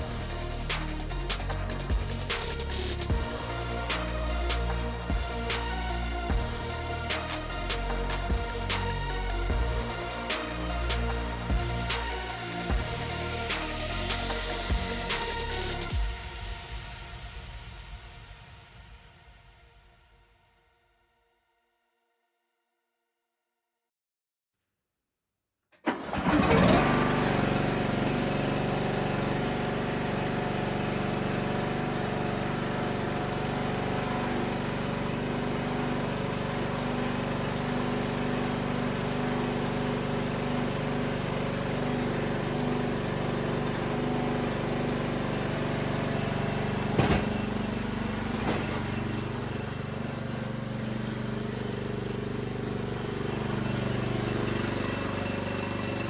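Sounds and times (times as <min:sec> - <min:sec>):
riding lawnmower engine running: 0:00.0 - 0:16.1, 0:25.8 - 0:56.0.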